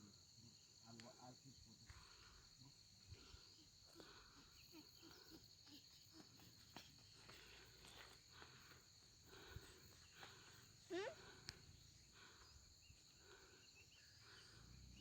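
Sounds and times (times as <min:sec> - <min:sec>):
faint insect chorus buzzing: 0:00.0 - 0:15.0.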